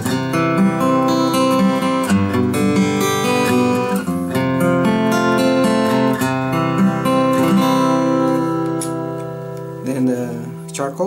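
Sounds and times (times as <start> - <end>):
acoustic guitar picked chords: 0.0 - 11.0.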